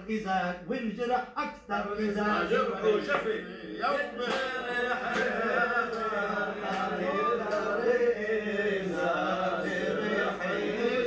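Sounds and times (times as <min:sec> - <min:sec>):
men chanting: 0:01.8 - 0:11.0.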